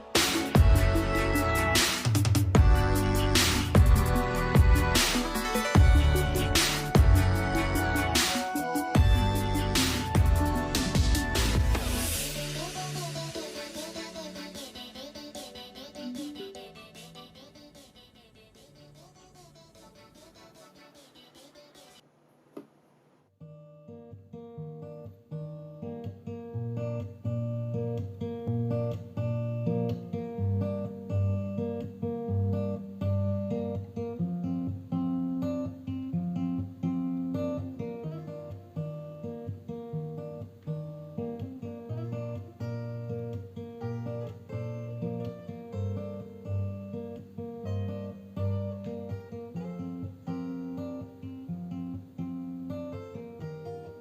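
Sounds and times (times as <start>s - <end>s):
acoustic guitar music: 0.0s - 17.7s, 23.4s - 54.0s.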